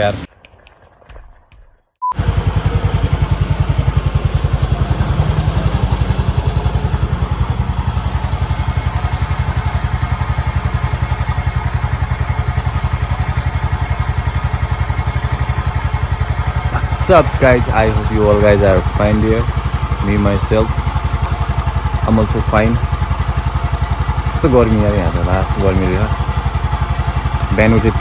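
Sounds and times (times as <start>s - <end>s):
scooter engine idling: 2.1s - 28.0s.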